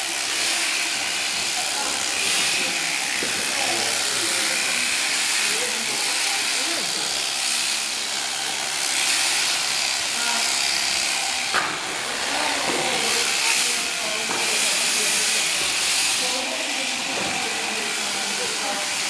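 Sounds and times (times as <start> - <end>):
electric shears buzzing: 0.0 - 19.0.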